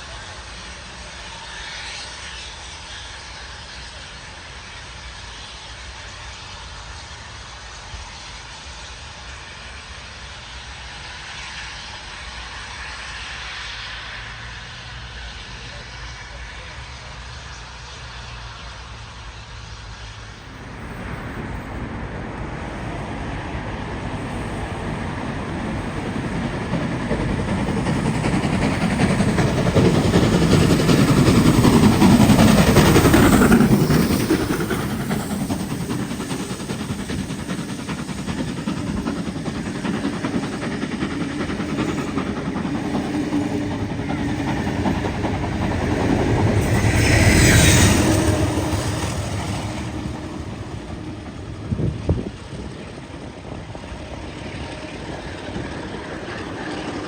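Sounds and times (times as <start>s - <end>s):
train passing: 0.0s - 57.0s.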